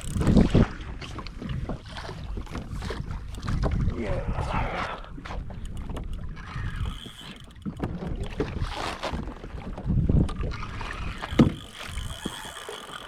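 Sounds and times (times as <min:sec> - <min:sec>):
wind on microphone: 0:00.0 - 0:12.5
water sloshing against hull: 0:00.0 - 0:13.0.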